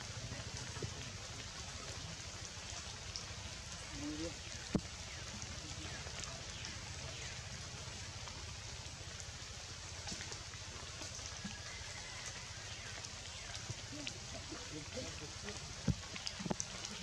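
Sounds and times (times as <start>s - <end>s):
rain falling through foliage: 0.0s - 17.0s.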